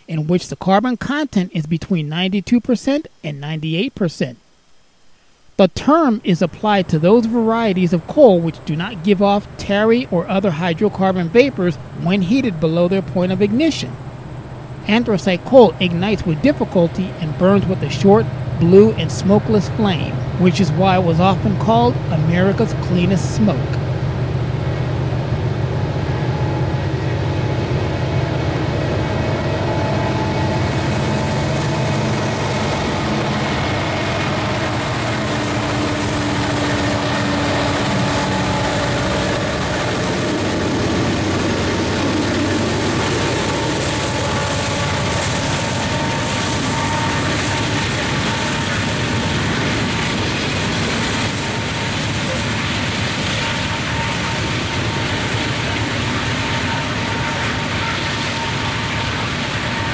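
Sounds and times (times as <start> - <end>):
diesel locomotive engine drone: 6.2 - 59.9
wheels rumbling on rail: 6.7 - 59.9.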